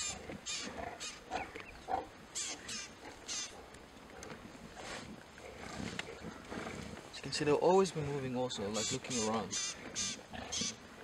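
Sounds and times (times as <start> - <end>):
lions growling and grunting: 0.0 - 7.2, 8.8 - 11.0.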